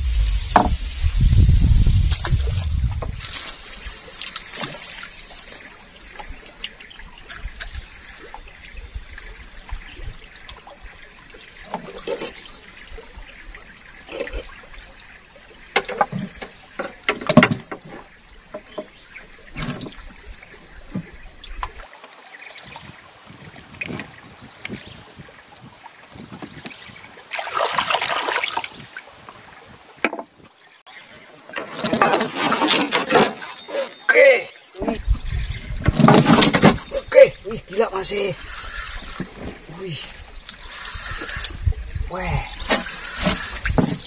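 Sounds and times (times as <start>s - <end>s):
river water trickling and lapping: 2.0s - 44.0s.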